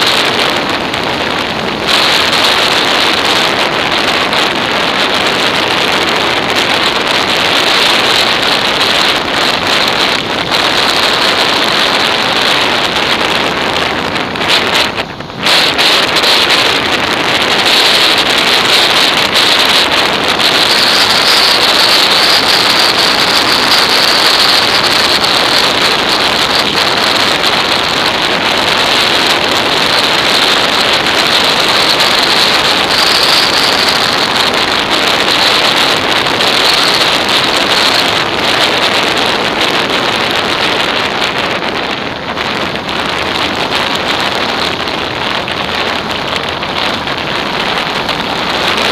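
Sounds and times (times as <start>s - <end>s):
motorcycle and tyres on road: 0.0s - 48.9s
wind on microphone: 0.0s - 48.9s.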